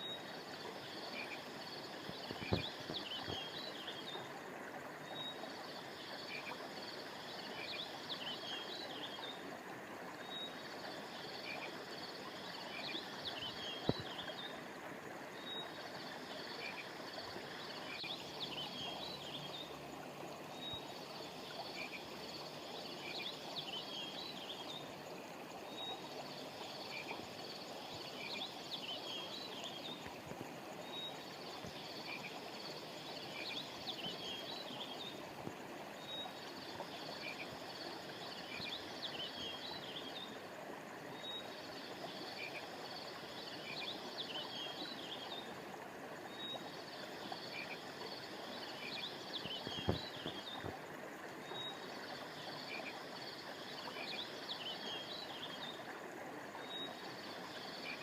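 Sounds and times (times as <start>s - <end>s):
flowing stream: 0.0s - 58.0s.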